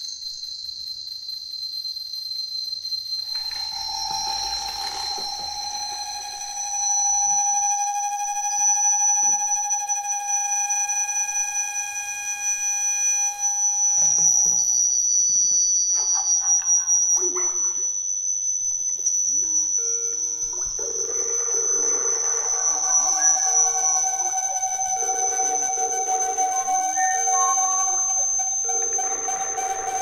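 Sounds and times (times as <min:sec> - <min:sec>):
audio feedback whistling tones: 0:00.0 - 0:30.0.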